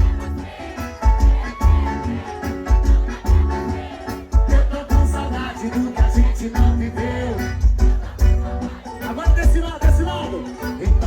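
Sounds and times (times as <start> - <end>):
guitar: 0.0 - 11.0
heavy bass beat: 0.0 - 11.0
live band music: 0.0 - 11.0.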